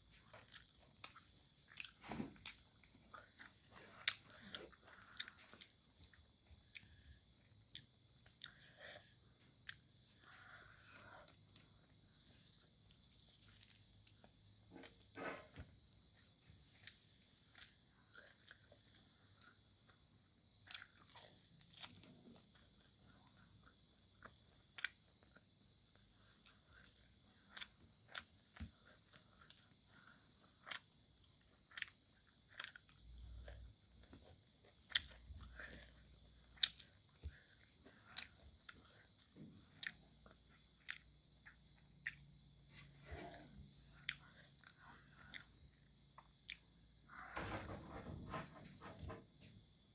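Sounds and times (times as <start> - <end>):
chewing clicks and smacks: 0.0 - 10.1, 12.6 - 15.1, 16.1 - 20.0, 20.6 - 47.0
insects chirping: 0.0 - 49.9.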